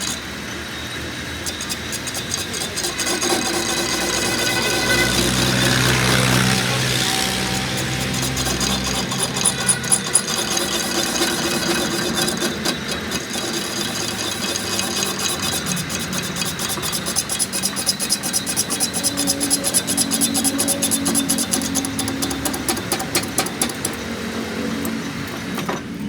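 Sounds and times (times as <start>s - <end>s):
mechanical ticking rattle: 1.3s - 26.0s.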